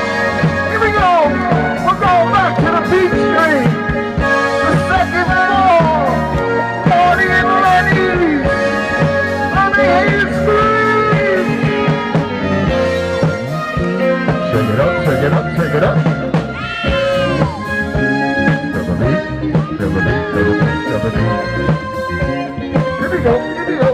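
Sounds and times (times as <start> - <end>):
live rock band playing: 0.0 - 23.9
steady drum beat: 0.0 - 23.9.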